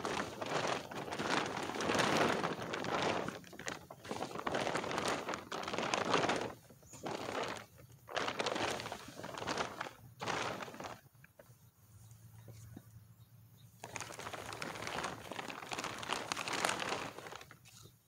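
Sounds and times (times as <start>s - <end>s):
tarp rustling as dragged: 0.0s - 11.2s, 13.8s - 18.0s.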